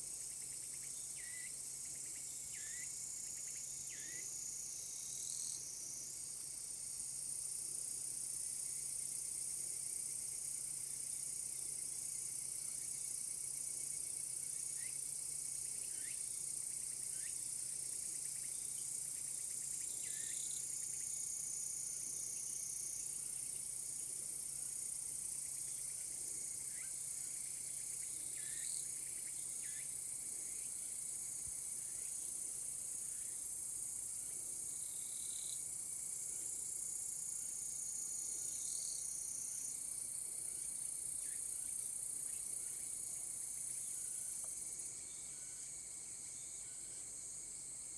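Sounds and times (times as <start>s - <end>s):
cicadas droning: 0.0s - 47.9s.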